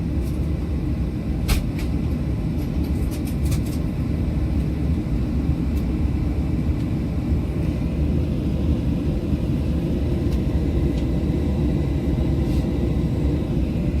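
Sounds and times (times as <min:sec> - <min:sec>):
low rumble of aircraft engines: 0:00.0 - 0:14.0.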